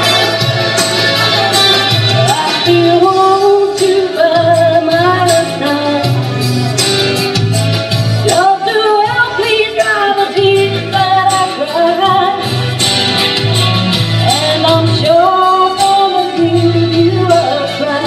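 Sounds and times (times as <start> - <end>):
woman singing into a microphone: 0.0 - 6.6, 8.2 - 12.9, 13.9 - 18.0
backing track with bass line: 0.0 - 18.0.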